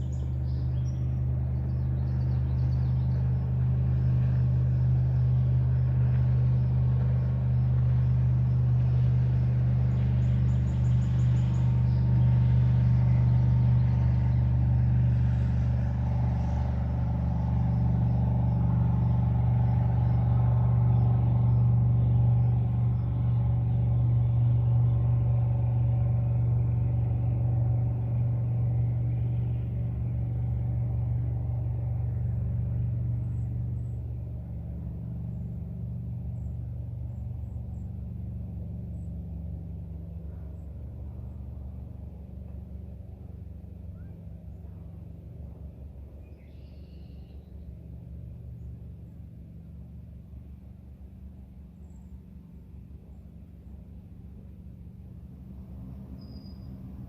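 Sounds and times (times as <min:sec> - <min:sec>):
engine rumbling: 0:00.0 - 0:57.0.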